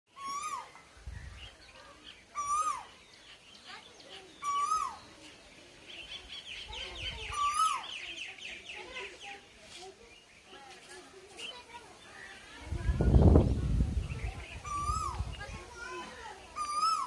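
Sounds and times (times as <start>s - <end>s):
birds fast high chirps: 0.1s - 10.6s, 11.3s - 17.0s.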